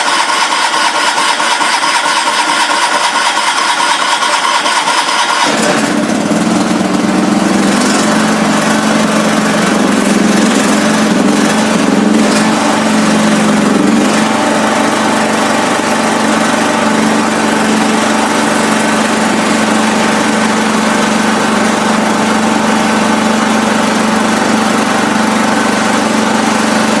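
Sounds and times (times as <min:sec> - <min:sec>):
lawn tractor engine running: 0:00.0 - 0:27.0.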